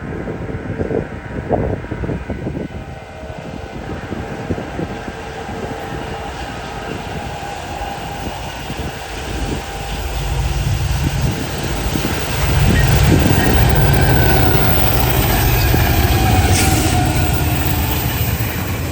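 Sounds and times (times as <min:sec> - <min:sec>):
diesel locomotive rumble: 0:00.0 - 0:18.9.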